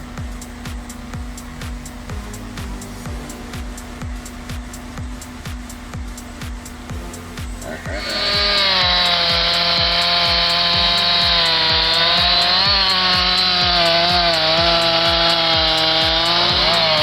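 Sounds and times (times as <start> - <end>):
background music with steady beat: 0.0 - 17.0
chainsaw cutting wood: 0.0 - 17.0.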